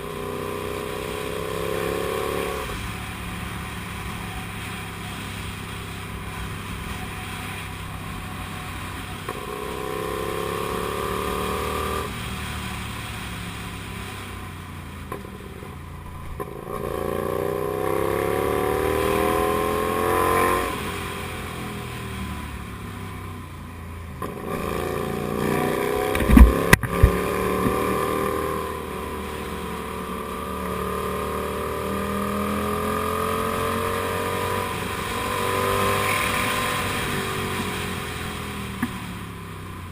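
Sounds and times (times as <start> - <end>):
motorcycle engine revving: 0.0 - 15.7, 16.3 - 23.4, 24.0 - 39.9.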